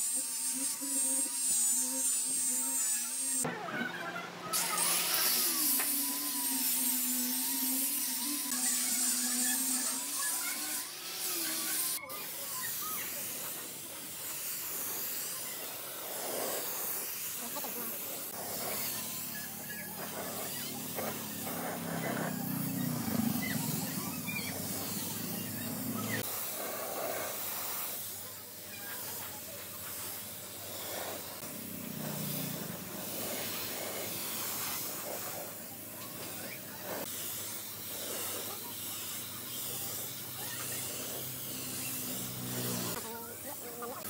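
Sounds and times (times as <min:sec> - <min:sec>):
pressure washer jet hissing: 0:04.6 - 0:44.0.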